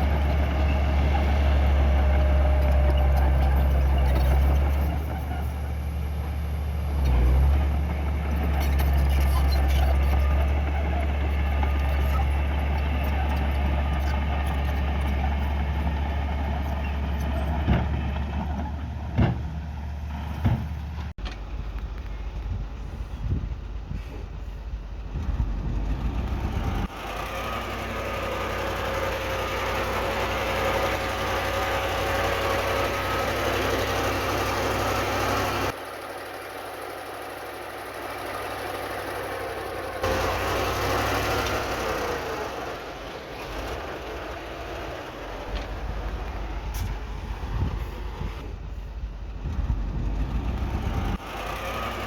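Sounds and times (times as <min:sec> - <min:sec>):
heavy diesel machinery running: 0:00.0 - 0:52.0.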